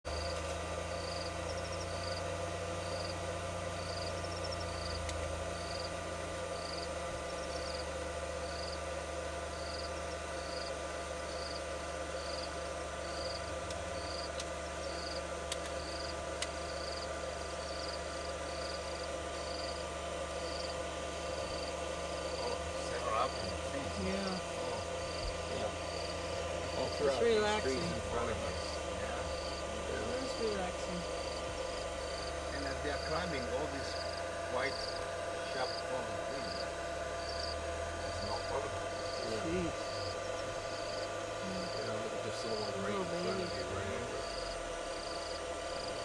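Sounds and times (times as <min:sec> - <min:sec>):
insect chirping: 0:00.1 - 0:08.8, 0:09.5 - 0:19.8, 0:20.4 - 0:43.6, 0:44.2 - 0:46.0
steady low hum: 0:00.1 - 0:46.0.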